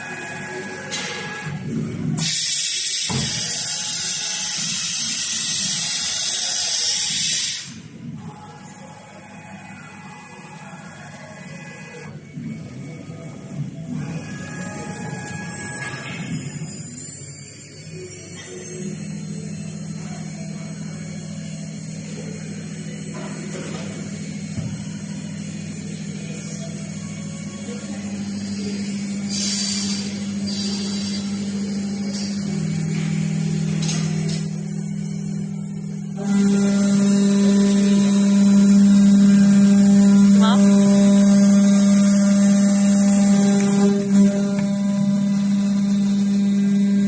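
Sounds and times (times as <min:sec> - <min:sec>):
high spindle whine: 0:07.8 - 0:47.0
low machine hum: 0:07.8 - 0:47.0.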